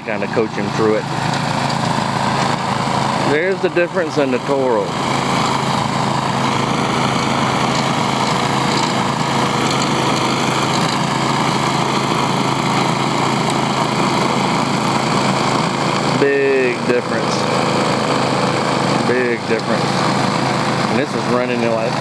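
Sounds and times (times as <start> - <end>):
snow blower engine running: 0.0 - 22.0.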